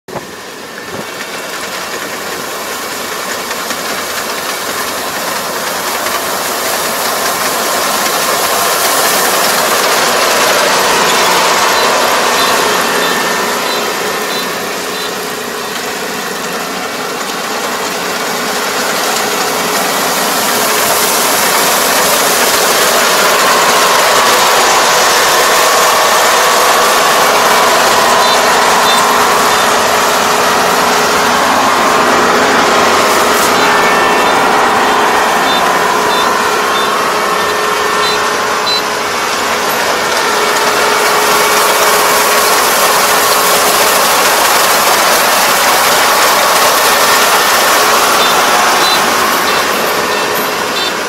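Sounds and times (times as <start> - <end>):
combine harvester running: 0.1 - 51.0.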